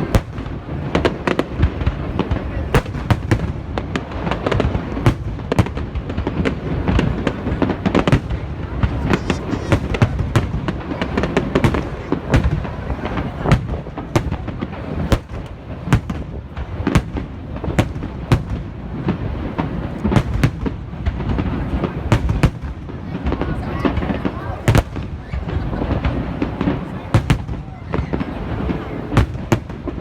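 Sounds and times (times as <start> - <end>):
fireworks bursting with sharp bangs: 0.0 - 30.0.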